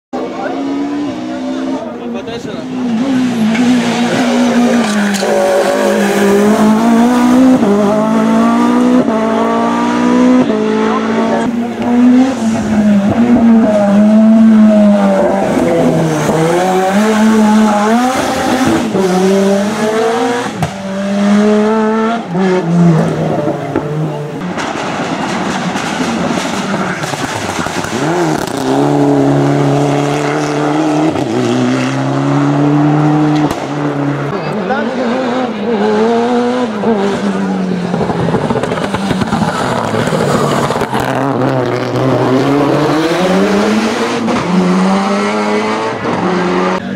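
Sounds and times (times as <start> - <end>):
race car engine accelerating: 0.2 - 46.9.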